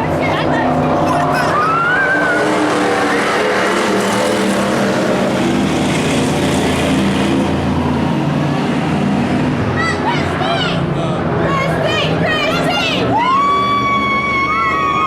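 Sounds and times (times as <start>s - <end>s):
race truck engine running hard: 0.0s - 15.0s
tyre and road noise: 0.0s - 15.0s.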